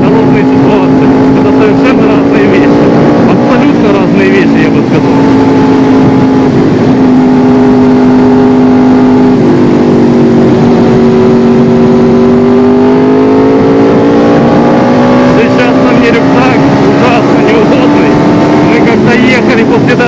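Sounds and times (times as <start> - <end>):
motorcycle engine running: 0.0 - 20.0
wind noise: 0.0 - 20.0.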